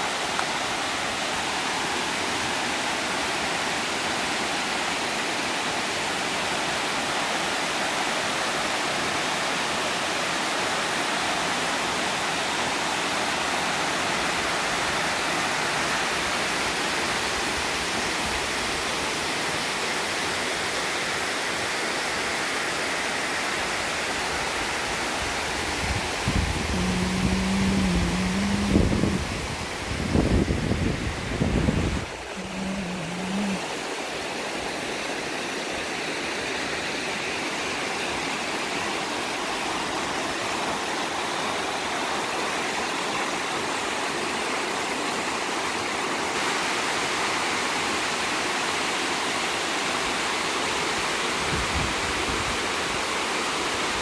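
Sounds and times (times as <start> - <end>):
water rushing over dam spillway: 0.0 - 54.0.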